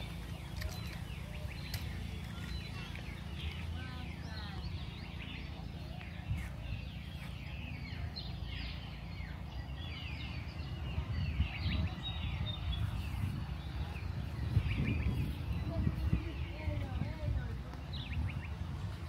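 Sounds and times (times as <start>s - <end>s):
many birds chirping: 0.0s - 19.0s
steady low rumble: 0.0s - 19.0s.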